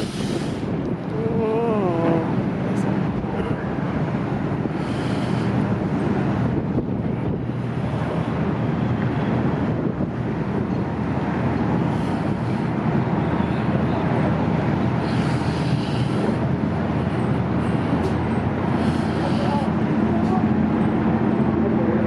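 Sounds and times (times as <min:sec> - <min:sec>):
ship engines humming: 0:00.0 - 0:22.0
wind buffeting microphone: 0:00.0 - 0:22.0.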